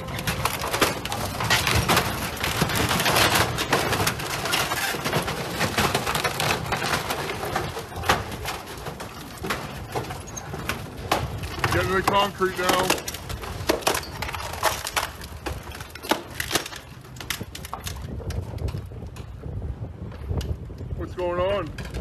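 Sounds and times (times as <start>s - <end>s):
wood cracking and splintering: 0.0s - 22.0s.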